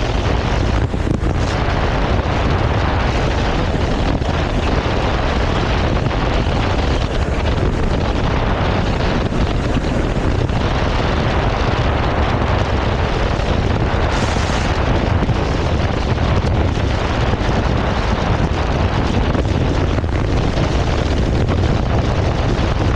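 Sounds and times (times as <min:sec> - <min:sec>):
loud wind rush: 0:00.0 - 0:22.9
motorcycle engine running: 0:00.0 - 0:22.9.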